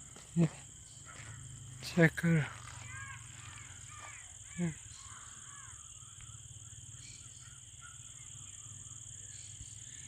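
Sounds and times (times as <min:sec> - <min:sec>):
faint crows cawing: 0:00.0 - 0:09.1.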